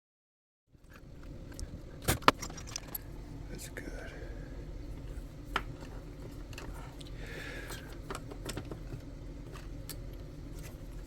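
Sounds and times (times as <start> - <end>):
steady low hum: 0.8 - 11.0.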